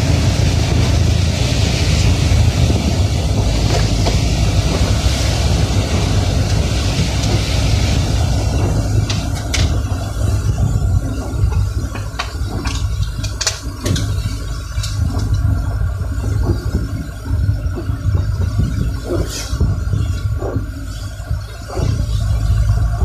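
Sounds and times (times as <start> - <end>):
vehicle low rumble: 0.0 - 23.0.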